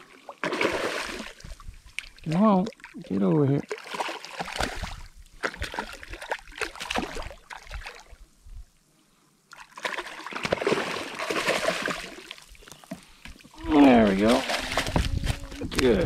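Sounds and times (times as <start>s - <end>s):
water splashing and sloshing: 0.0s - 8.7s, 9.5s - 16.0s.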